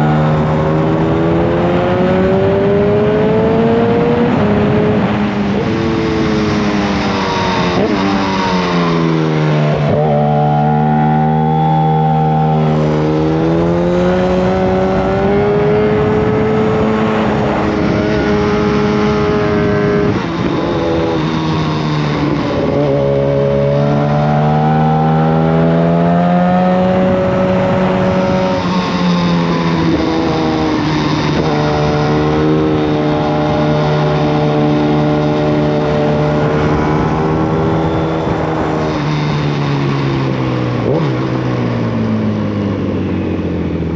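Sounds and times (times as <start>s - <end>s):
loud motorcycle engine revving: 0.0s - 43.9s.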